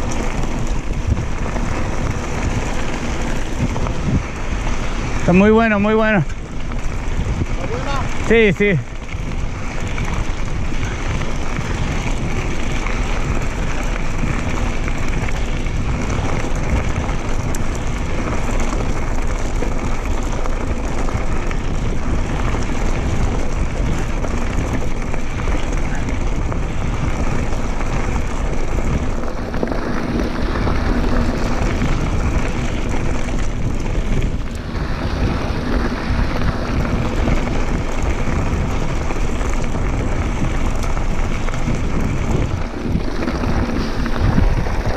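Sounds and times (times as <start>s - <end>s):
bike rolling and rattling: 0.0s - 44.9s
wind rushing over microphone: 0.0s - 44.9s.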